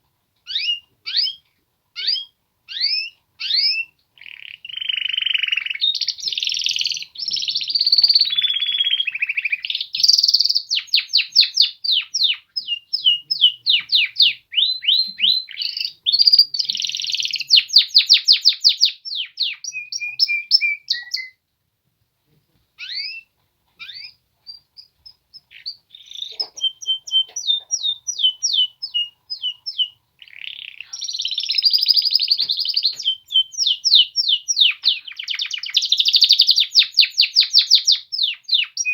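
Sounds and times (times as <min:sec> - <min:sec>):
canaries singing: 0:00.4 - 0:21.4, 0:22.8 - 0:38.9.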